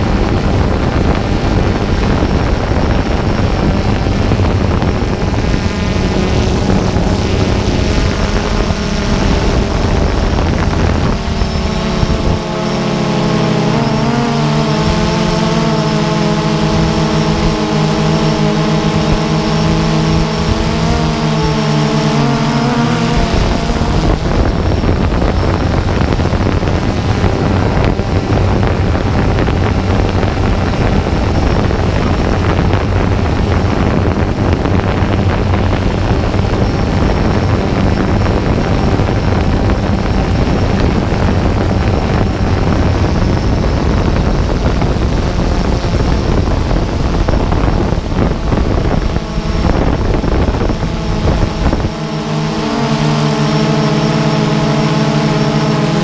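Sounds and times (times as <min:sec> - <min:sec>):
drone motors whining: 0:00.0 - 0:56.0
low hum: 0:00.0 - 0:56.0
rough rushing noise: 0:00.0 - 0:56.0.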